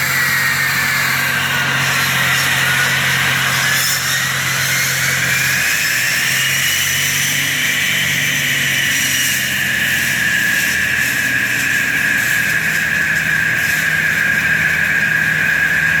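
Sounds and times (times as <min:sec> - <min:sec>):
floor saw engine humming: 0:00.0 - 0:16.0
high whine of spinning blade: 0:00.0 - 0:16.0.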